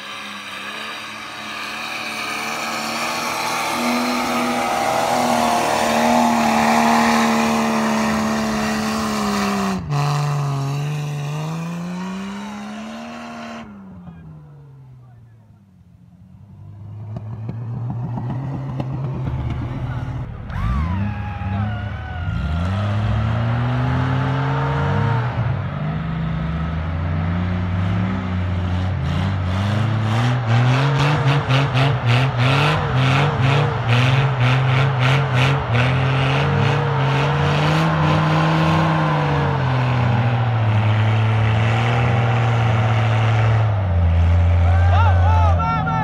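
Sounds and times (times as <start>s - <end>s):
engines revving under load: 0.0s - 15.6s, 16.4s - 46.0s.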